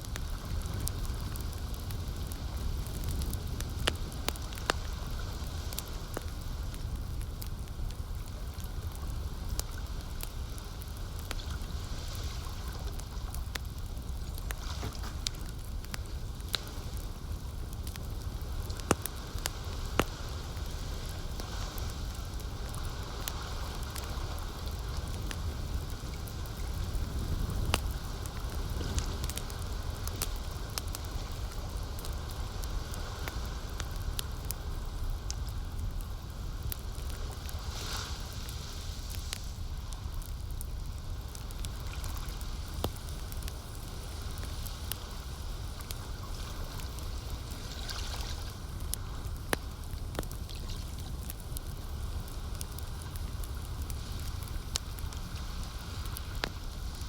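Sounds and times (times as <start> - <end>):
campfire crackling and popping: 0.0 - 57.0
fire hissing: 0.0 - 57.0
low fire rumble: 0.0 - 57.0
soft lake water: 0.0 - 57.0.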